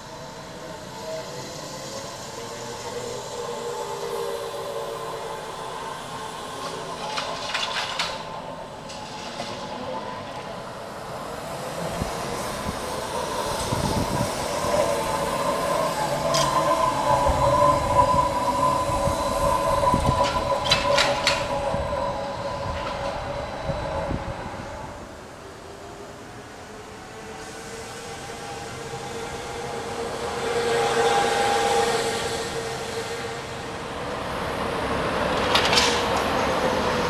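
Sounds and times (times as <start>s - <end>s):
trolleybus electric whine: 0.0s - 37.0s.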